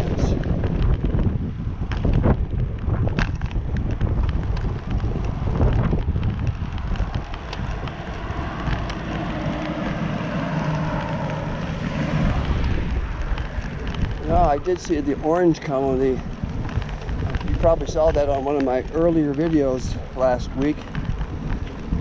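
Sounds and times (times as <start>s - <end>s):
bicycle rumble on concrete: 0.0s - 22.0s
wind buffeting microphone: 0.0s - 22.0s.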